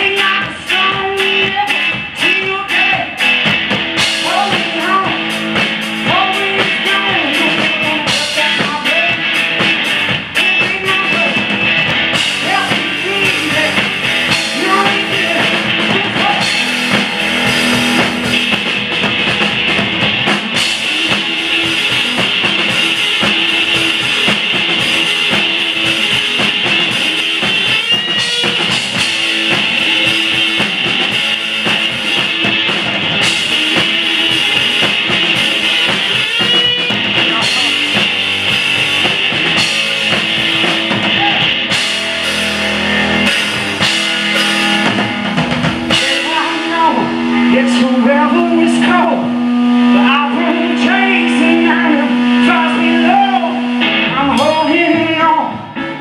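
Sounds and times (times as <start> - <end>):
rock band playing: 0.0 - 56.0
rising guitar slides: 3.2 - 56.0.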